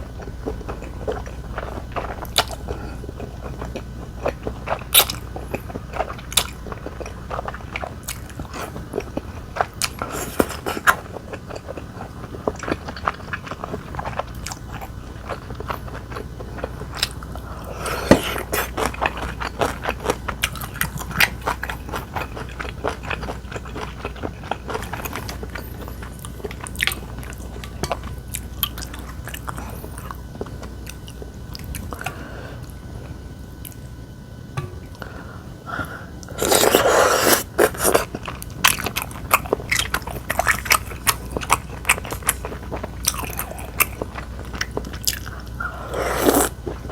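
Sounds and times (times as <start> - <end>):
person chewing and crunching: 0.0 - 32.8, 34.9 - 46.9.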